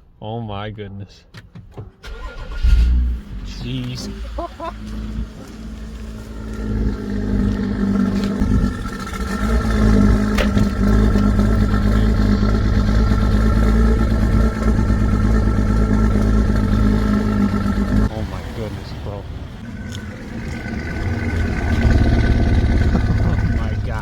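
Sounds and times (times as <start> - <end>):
car engine running: 2.0 - 24.0.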